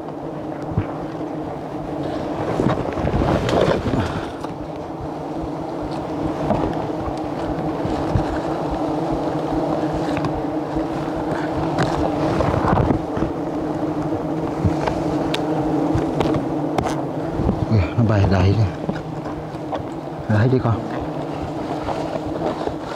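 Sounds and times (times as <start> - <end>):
swarm of bees buzzing: 0.0 - 22.9.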